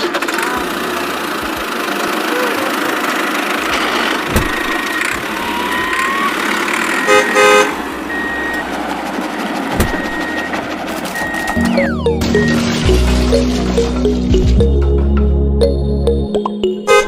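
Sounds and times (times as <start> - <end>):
vehicle engine noise: 0.0 - 17.0.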